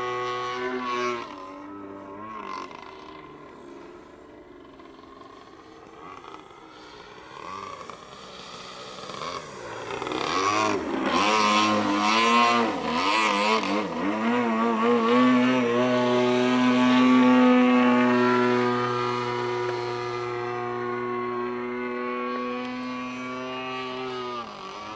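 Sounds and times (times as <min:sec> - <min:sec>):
model plane engine running: 0:00.0 - 0:24.9.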